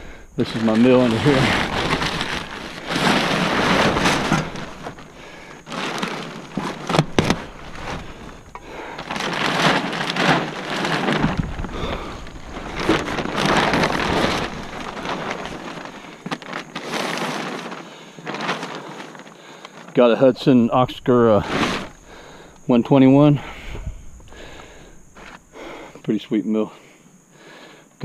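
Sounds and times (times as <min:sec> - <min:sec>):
plastic tarp rustling: 0:00.0 - 0:26.1.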